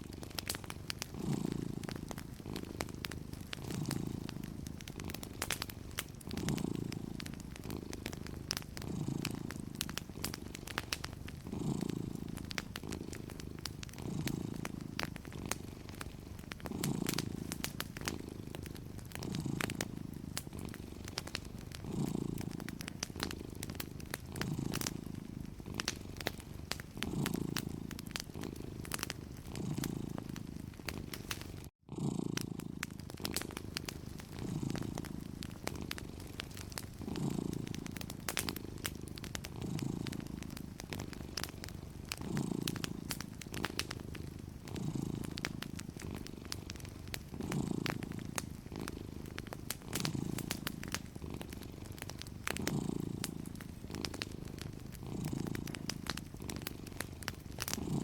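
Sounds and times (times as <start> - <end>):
cat purring: 0.0 - 58.0
wood fire crackling: 0.0 - 58.0.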